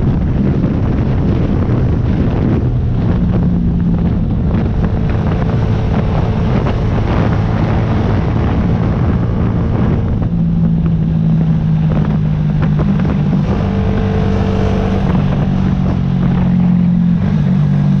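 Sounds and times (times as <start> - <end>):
motorcycle engine running: 0.0 - 18.0
wind noise on microphone: 0.0 - 18.0.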